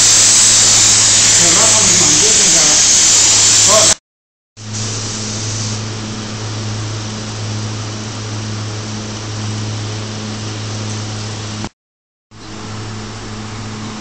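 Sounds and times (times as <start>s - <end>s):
steady machine hum: 0.0s - 4.0s, 4.6s - 11.7s, 12.3s - 14.0s.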